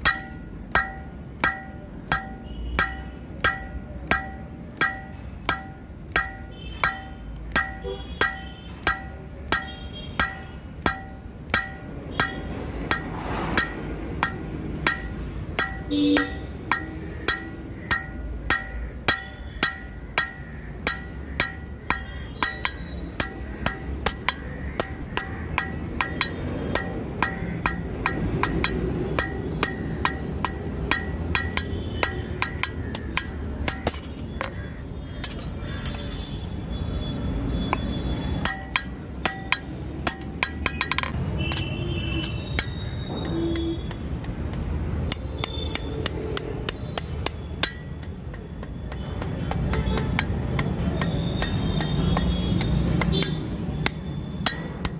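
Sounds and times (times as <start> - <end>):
hammer clanging on anvil: 0.0 - 36.3, 37.7 - 44.0, 45.0 - 54.9.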